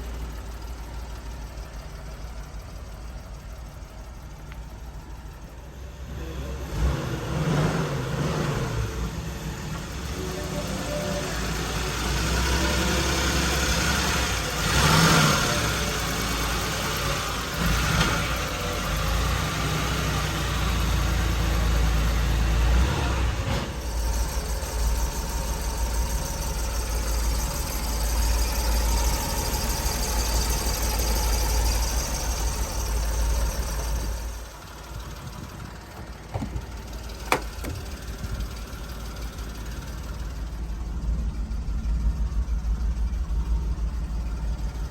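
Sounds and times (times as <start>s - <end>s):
small truck engine humming: 0.0s - 44.9s.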